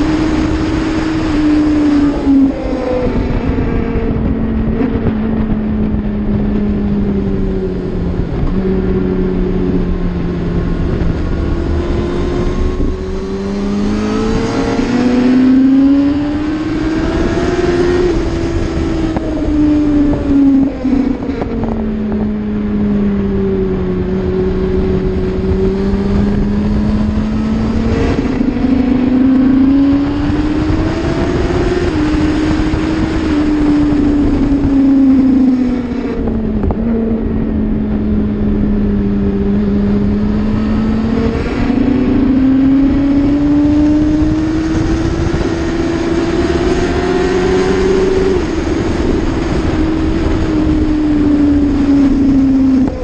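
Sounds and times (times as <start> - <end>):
racing motorcycle engine: 0.0 - 53.0.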